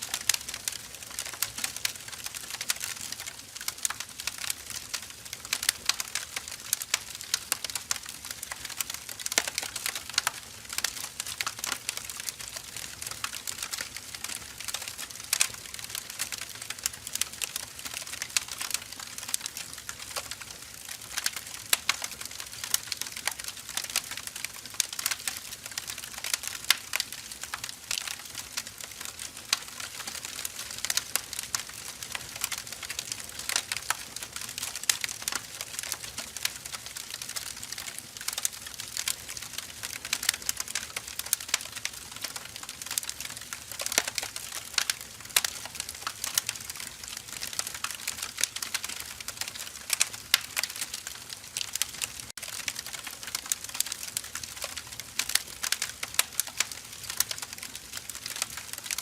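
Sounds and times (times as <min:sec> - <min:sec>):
burning logs crackling: 0:00.0 - 0:59.0.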